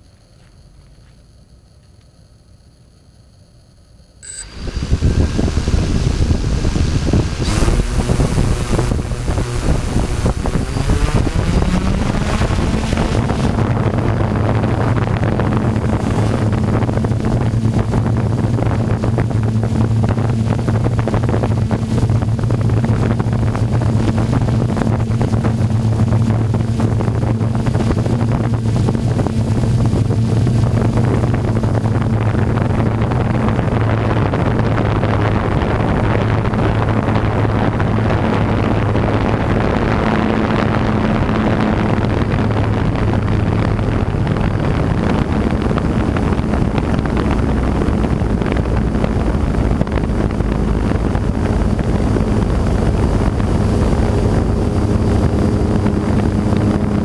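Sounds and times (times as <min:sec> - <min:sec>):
drone motors humming: 0:04.2 - 0:57.0
wind rushing over microphone: 0:04.2 - 0:57.0.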